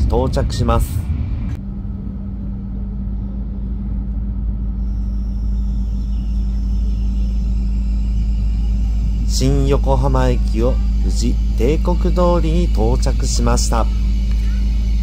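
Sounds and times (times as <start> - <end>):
faint high-pitched whine: 0.0 - 15.0
train running rumble: 0.0 - 15.0.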